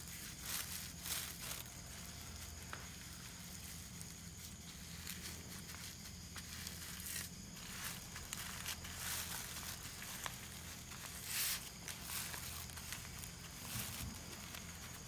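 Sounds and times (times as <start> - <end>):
leaf rustling and crinkling: 0.0 - 15.0.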